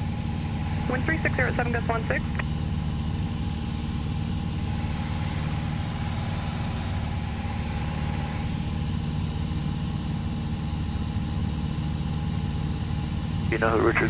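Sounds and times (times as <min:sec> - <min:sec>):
airplane engine drone in cockpit: 0:00.0 - 0:14.0.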